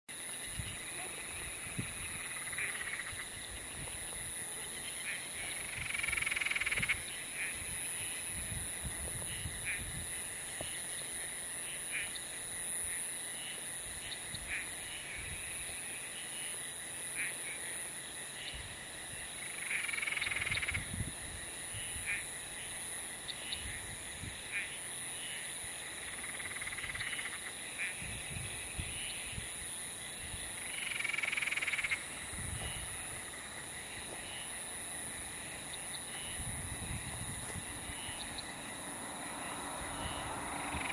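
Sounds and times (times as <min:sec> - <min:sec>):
frogs calling: 0:00.1 - 0:40.9
high insect hum: 0:00.1 - 0:40.9.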